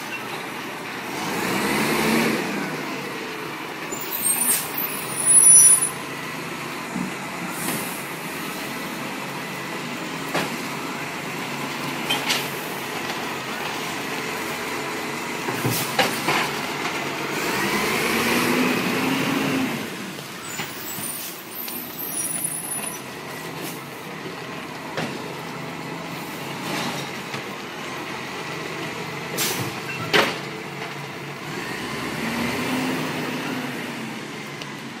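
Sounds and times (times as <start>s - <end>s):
garbage truck engine revving: 0.6s - 23.9s, 25.2s - 35.0s.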